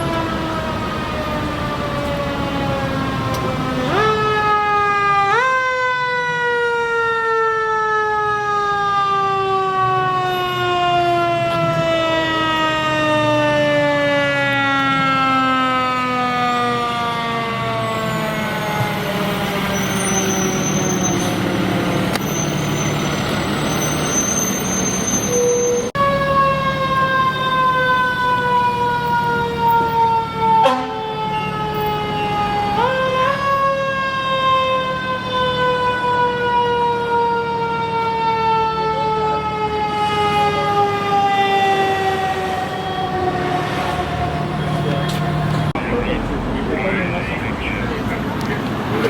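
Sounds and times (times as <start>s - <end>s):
engine and traffic rumble: 0.0s - 49.0s
fire truck siren wailing: 0.0s - 49.0s.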